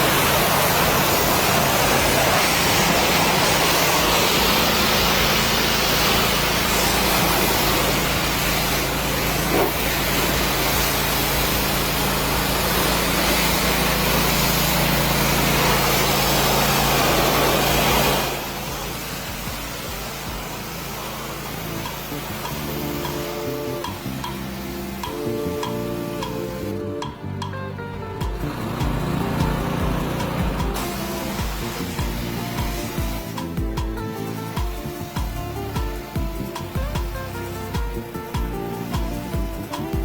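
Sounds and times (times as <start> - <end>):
water spray hissing: 0.0 - 27.2, 27.9 - 40.0
pressure washer pump humming: 0.0 - 40.0.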